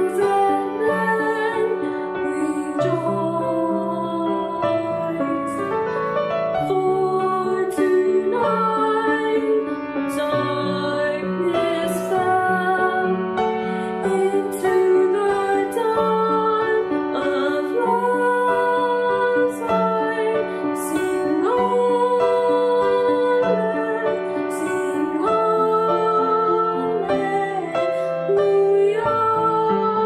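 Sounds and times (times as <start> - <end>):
piano accompaniment: 0.0 - 30.0.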